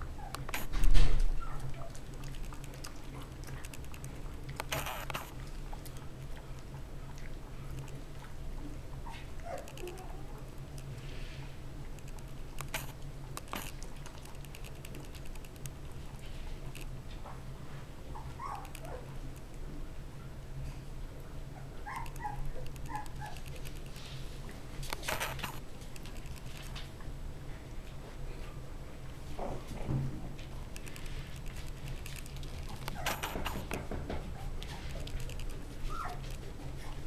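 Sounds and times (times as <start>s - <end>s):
low steady hum: 0.0s - 37.0s
puppies scratching and nibbling: 0.0s - 37.0s.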